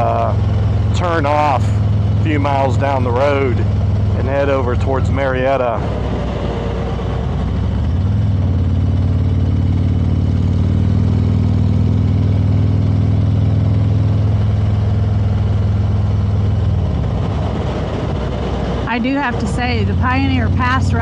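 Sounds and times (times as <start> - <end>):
motorcycle engine running: 0.0 - 21.0
road and wind noise: 0.0 - 21.0.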